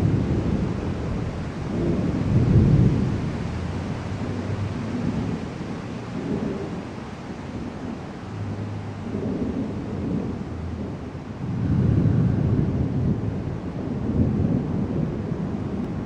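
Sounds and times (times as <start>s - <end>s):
rain hissing: 0.0s - 16.0s
thunder rumbling: 0.0s - 16.0s.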